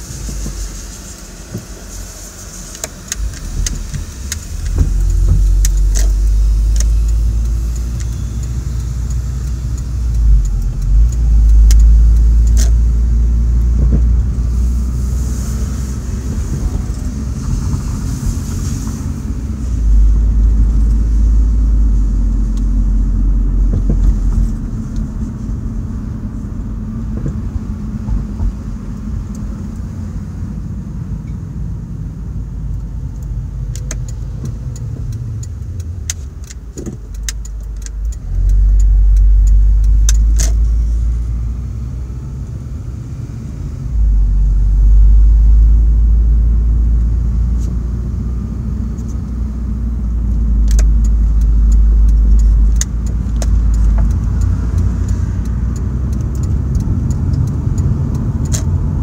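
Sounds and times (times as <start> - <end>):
car engine rumble: 0.0 - 59.0
road noise inside car: 0.0 - 59.0.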